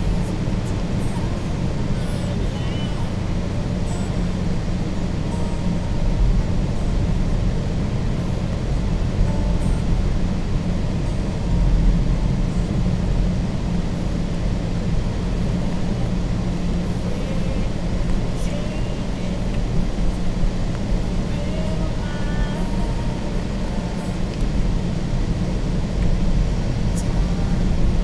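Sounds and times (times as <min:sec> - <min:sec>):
car engine and tyres rumbling: 0:00.0 - 0:28.0.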